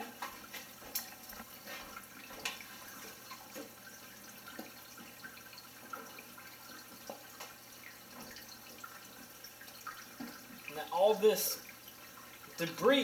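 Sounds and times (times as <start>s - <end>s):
water drips: 0.0s - 13.0s
water trickling and bubbling: 0.0s - 13.0s.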